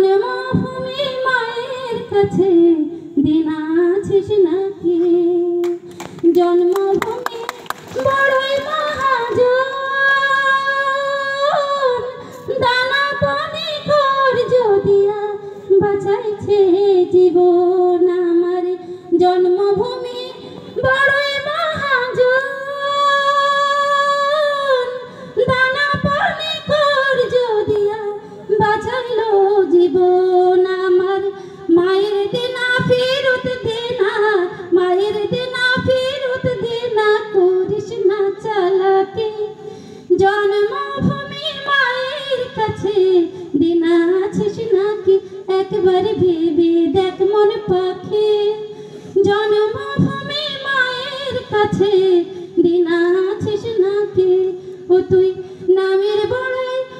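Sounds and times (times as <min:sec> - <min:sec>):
woman singing unaccompanied: 0:00.0 - 0:56.9.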